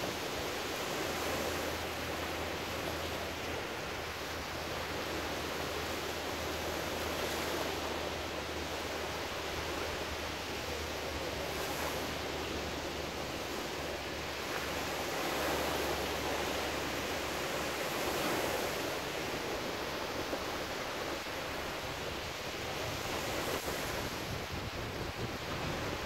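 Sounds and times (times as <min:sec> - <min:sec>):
waves breaking on sandy shore: 0:00.0 - 0:26.0.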